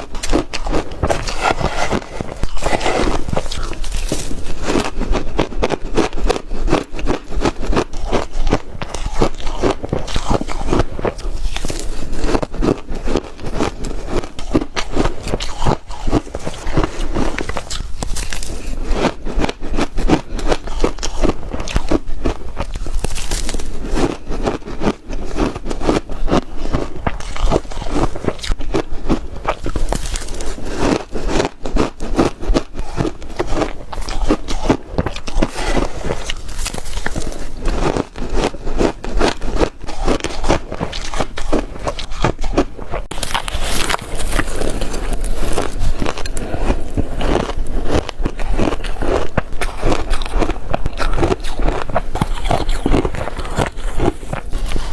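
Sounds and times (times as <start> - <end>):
ice being chewed: 0.0 - 54.9.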